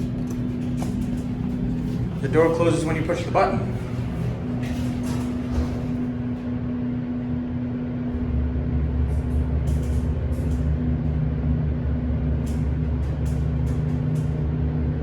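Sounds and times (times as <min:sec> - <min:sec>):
elevator deep rumble: 0:00.0 - 0:15.0
elevator machinery hum: 0:00.0 - 0:15.0.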